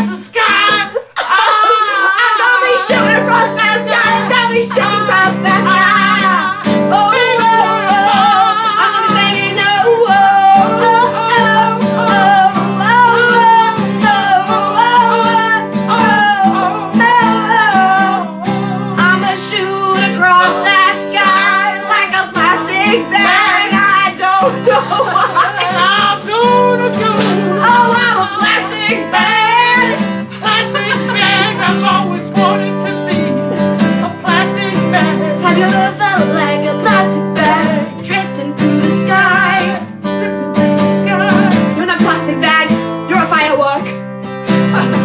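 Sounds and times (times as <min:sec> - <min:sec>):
people singing pop song: 0:00.0 - 0:43.4
guitar accompaniment: 0:00.0 - 0:45.0.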